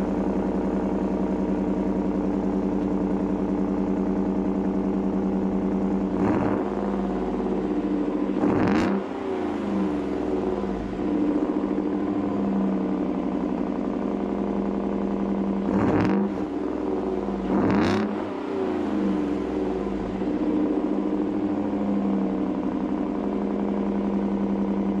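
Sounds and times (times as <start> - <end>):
car engine idling: 0.0 - 25.0
engine throttle blips: 0.0 - 25.0.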